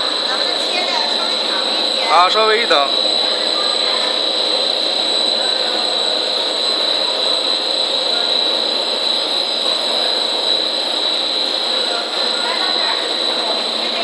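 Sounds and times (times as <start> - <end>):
high-pitched machine whine: 0.0 - 14.0
loud machinery noise: 0.0 - 14.0.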